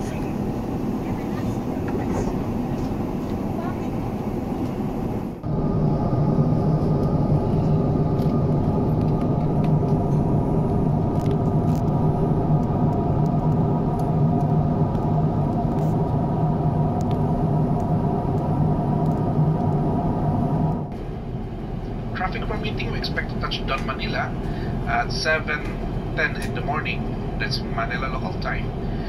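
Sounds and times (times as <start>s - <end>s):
aircraft cabin roar: 0.0s - 29.0s
low drone: 0.0s - 29.0s.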